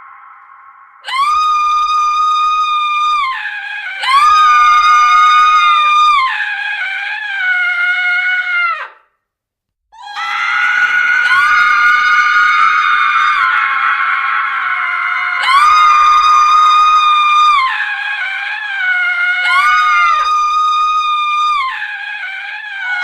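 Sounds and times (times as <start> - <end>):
woman screaming: 1.0 - 9.0, 10.0 - 23.0.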